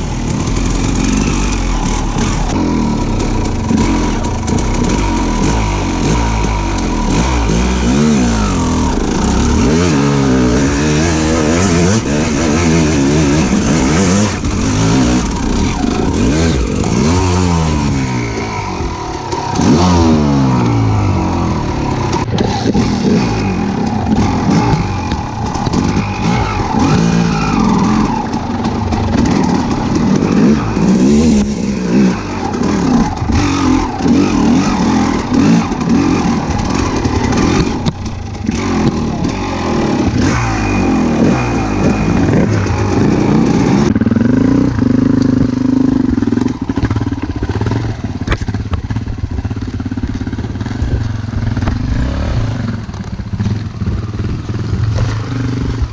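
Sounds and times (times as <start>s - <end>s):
motor engines revving: 0.0s - 55.9s.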